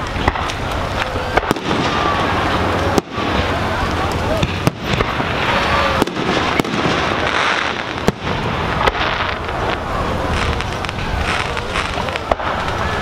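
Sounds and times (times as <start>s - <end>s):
firework bangs: 0.0s - 13.0s
steady wash of noise: 0.0s - 13.0s.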